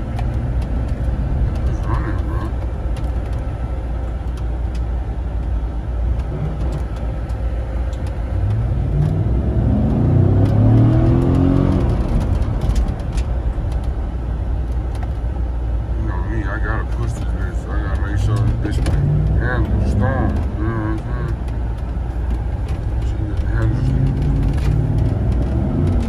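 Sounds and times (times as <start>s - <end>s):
car engine from inside cabin: 0.0s - 26.0s
road and wind rumble: 0.0s - 26.0s.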